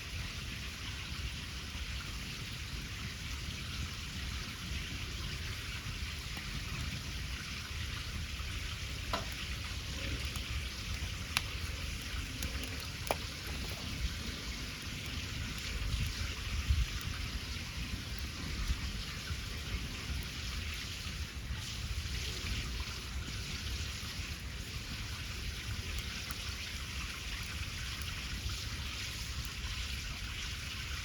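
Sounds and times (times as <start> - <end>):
food sizzling over fire: 0.0 - 31.0
wood fire popping: 0.2 - 31.0.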